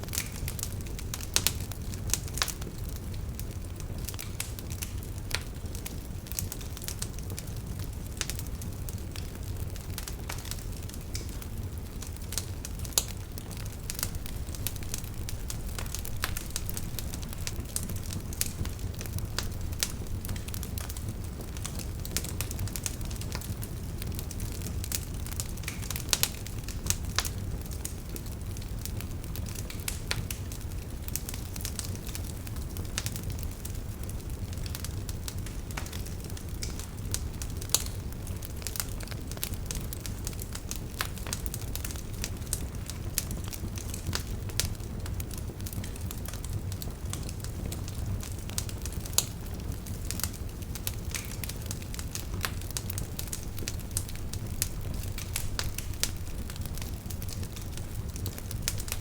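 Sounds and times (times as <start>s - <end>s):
campfire burning: 0.0s - 59.0s.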